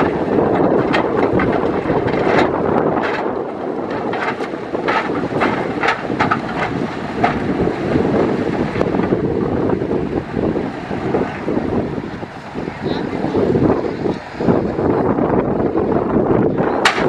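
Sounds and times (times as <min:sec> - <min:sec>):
heavy machinery engine rumble: 0:00.0 - 0:17.0
wind buffeting microphone: 0:00.0 - 0:17.0.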